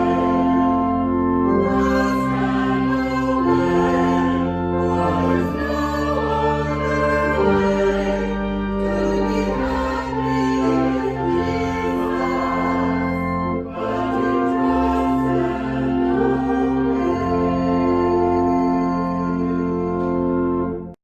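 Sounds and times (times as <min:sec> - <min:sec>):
voices singing: 0:00.0 - 0:18.4
slow hymn chords: 0:00.0 - 0:21.0.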